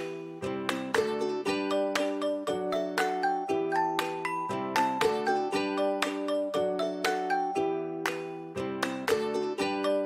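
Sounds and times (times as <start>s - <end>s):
light instrumental music: 0.0s - 10.0s.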